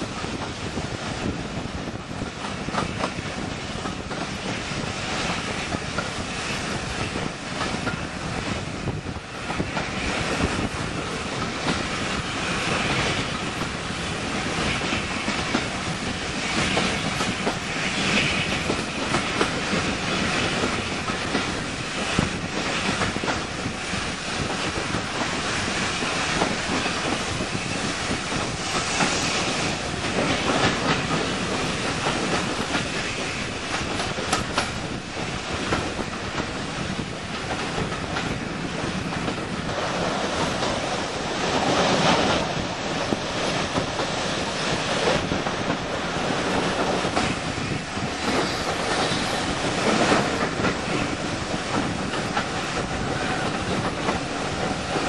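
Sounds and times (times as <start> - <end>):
train rumble: 0.0 - 55.0
train wheels clattering: 0.0 - 55.0.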